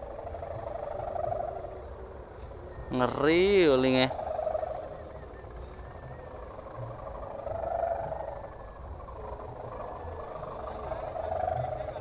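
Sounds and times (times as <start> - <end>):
kite ribbon droning buzz: 0.0 - 12.0.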